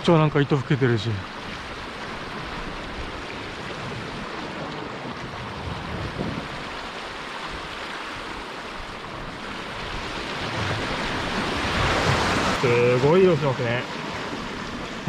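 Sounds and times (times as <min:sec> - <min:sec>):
ocean surf on rocky shore: 0:00.0 - 0:15.0.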